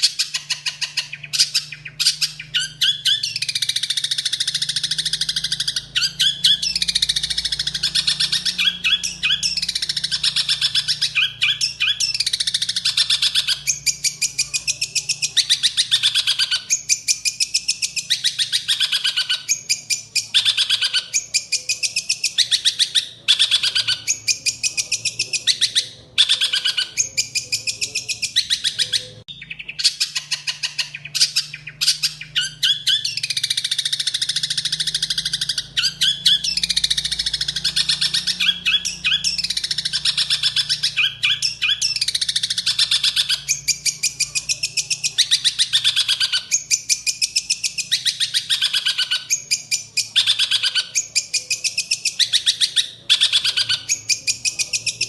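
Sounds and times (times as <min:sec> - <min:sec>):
songbird singing trills: 0:00.0 - 0:55.0.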